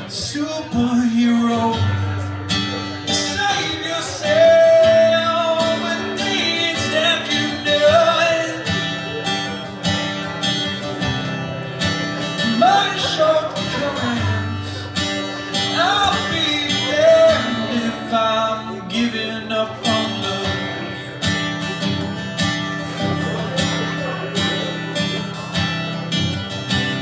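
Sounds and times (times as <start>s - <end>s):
acoustic guitar: 0.0s - 27.0s.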